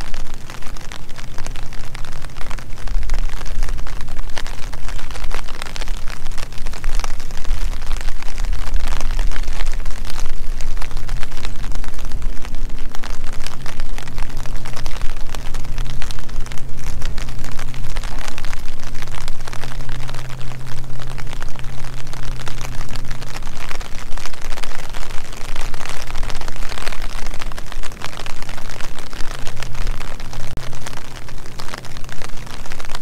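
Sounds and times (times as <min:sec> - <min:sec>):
low rumble: 0:00.0 - 0:33.0
rain falling: 0:00.0 - 0:33.0
steady low hum: 0:00.0 - 0:33.0.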